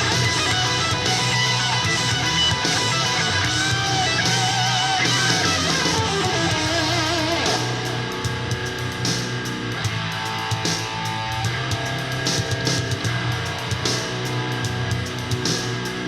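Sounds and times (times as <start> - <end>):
electric guitar bending notes: 0.0 - 16.0
rock music: 0.0 - 16.0.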